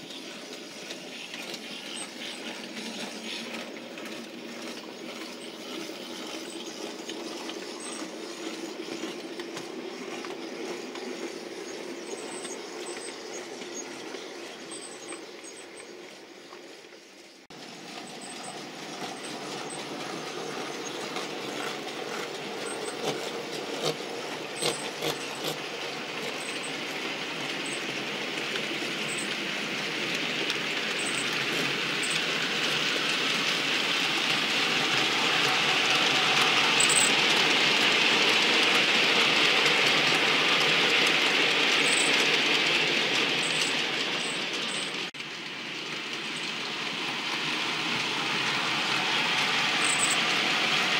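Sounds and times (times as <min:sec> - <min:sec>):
model train rumbling on track: 0:00.0 - 0:50.9.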